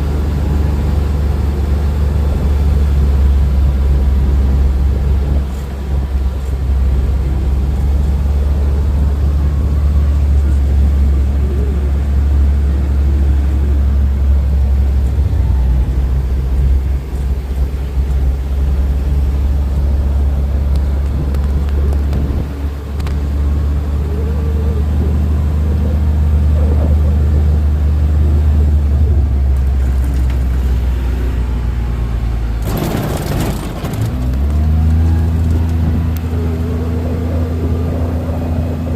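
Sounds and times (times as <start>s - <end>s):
loud rush of noise: 0.0s - 38.9s
vehicle engine rumble: 0.0s - 38.9s.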